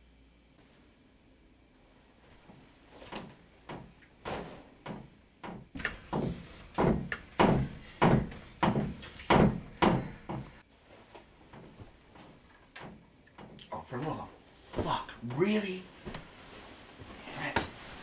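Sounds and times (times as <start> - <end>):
heavy thumps: 2.5 - 10.6, 11.4 - 17.9.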